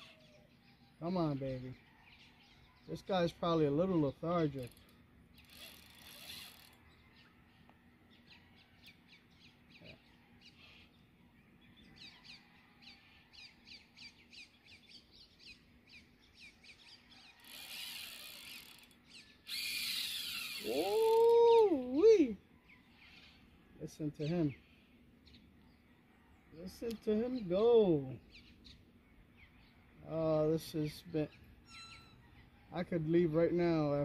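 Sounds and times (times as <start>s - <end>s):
bird chirping: 0.0s - 19.8s, 22.0s - 34.0s.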